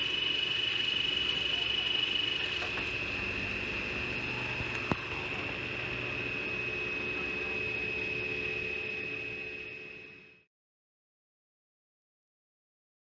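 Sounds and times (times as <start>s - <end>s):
drilling machine whine and hum: 0.0s - 10.5s.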